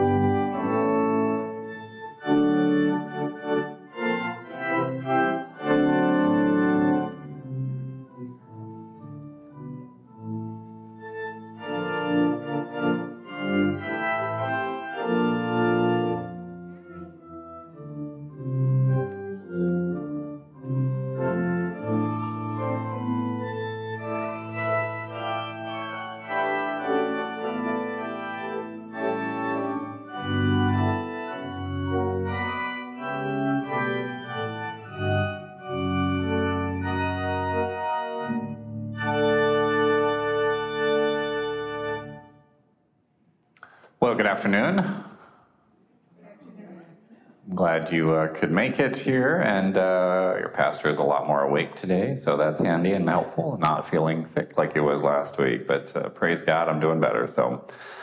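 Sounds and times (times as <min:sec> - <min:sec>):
pipe organ chords: 0:00.0 - 0:42.6, 0:43.7 - 0:45.4, 0:47.4 - 0:58.0.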